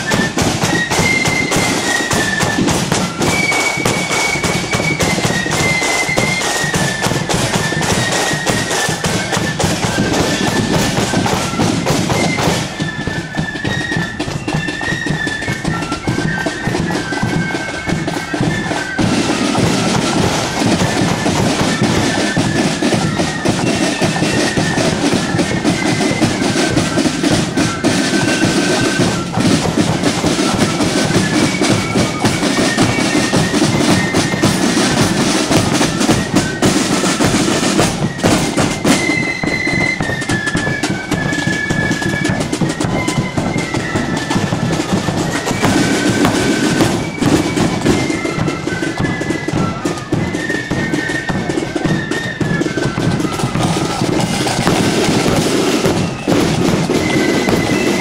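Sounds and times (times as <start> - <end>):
drums beating time: 0.0 - 58.0
flutes playing in unison: 0.0 - 58.0.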